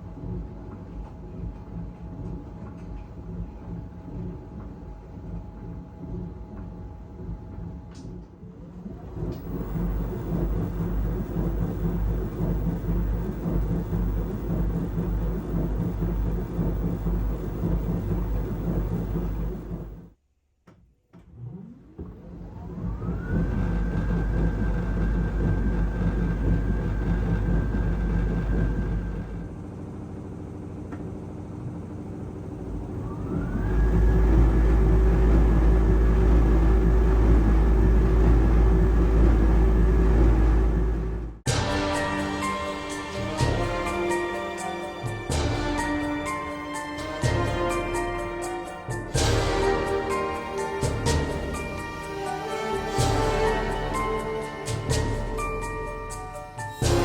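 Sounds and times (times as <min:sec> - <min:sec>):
washing machine motor whine: 0:00.0 - 0:20.2, 0:21.2 - 0:57.0
washing machine rumble: 0:00.0 - 0:20.2, 0:21.3 - 0:57.0.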